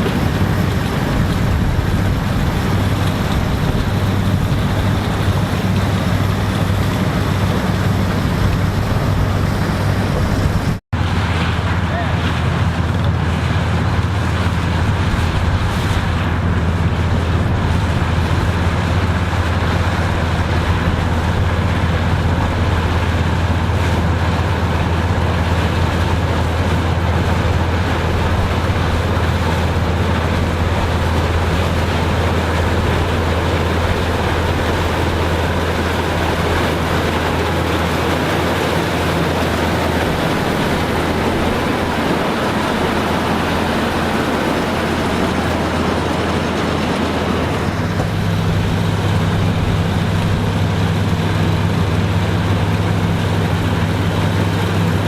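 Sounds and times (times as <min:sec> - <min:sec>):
harvesting machinery engine drone: 0:00.0 - 0:55.0.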